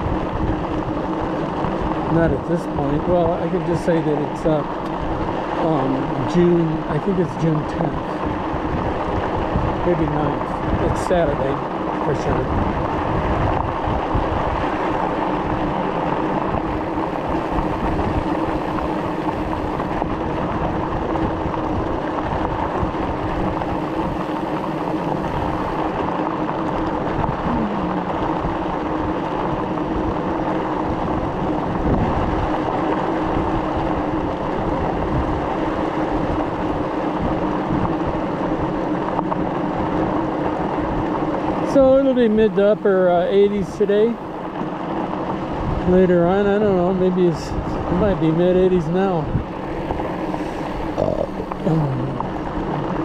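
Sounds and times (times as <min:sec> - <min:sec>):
electric drive whine: 0:00.0 - 0:47.3
wind on microphone: 0:00.0 - 0:53.0.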